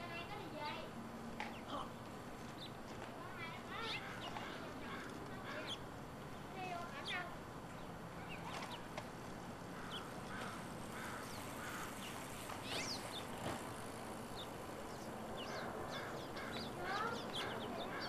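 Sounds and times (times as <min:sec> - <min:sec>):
songbirds chirping: 0:00.0 - 0:18.0
low repeated bird call: 0:01.4 - 0:08.9, 0:09.7 - 0:18.0.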